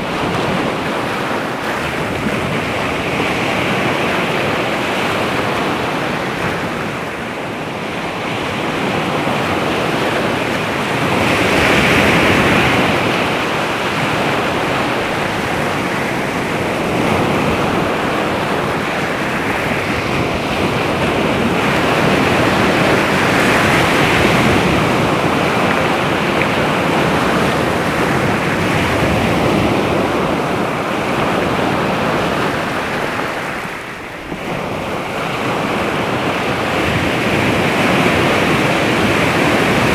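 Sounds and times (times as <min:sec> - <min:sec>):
waves washing onto shore: 0:00.0 - 0:39.9.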